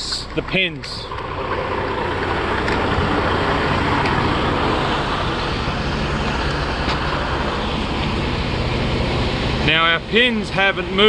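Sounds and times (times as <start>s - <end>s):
constant noisy hiss: 0.0s - 11.0s
diesel engine idling: 0.0s - 11.0s.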